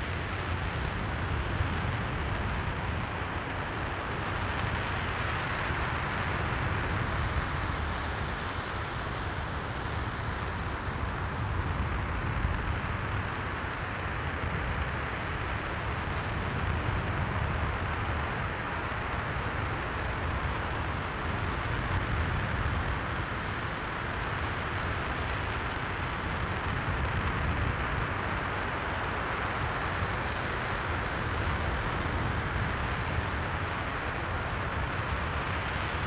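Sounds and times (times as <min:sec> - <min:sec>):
rocket engine roaring: 0:00.0 - 0:36.0.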